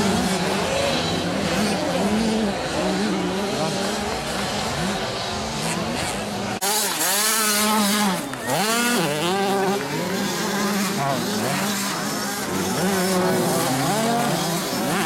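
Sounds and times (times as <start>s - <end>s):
dirt bikes racing: 0.0s - 15.0s
nearby dirt bike revving: 0.0s - 15.0s.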